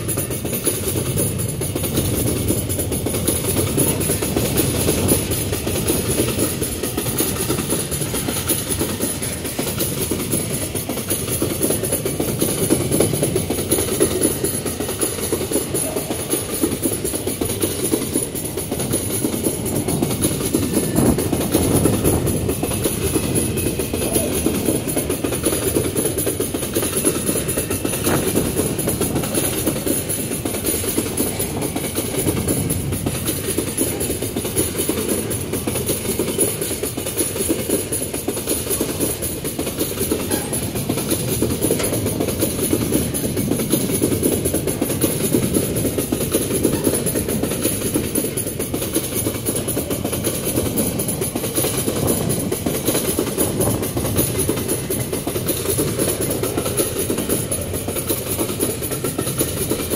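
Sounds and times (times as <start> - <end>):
wagon wheels rattling on rails: 0.0 - 59.9.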